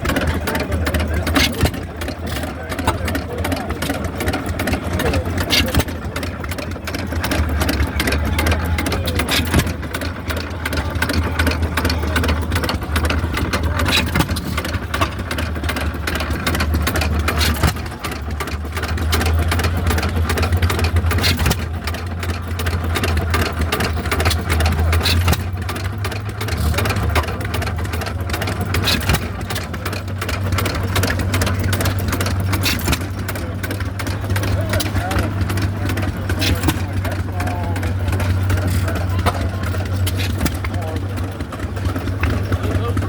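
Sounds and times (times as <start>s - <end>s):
stationary engines clattering: 0.0s - 43.0s.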